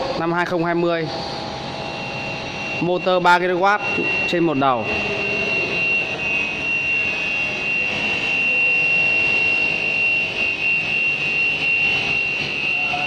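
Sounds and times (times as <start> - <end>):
cutting saw motor whining: 1.1 - 13.0.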